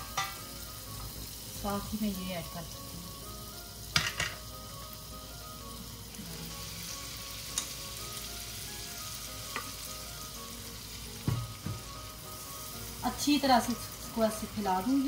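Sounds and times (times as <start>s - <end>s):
batter sizzling in a frying pan: 0.0s - 15.0s.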